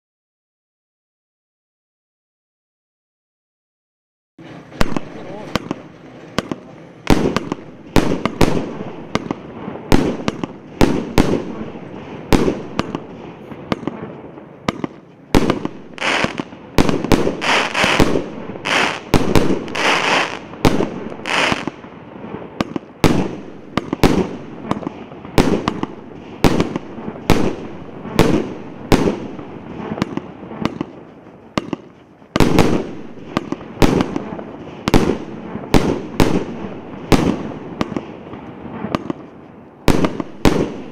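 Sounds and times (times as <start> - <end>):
fireworks shots and bursts: 4.4 - 40.9.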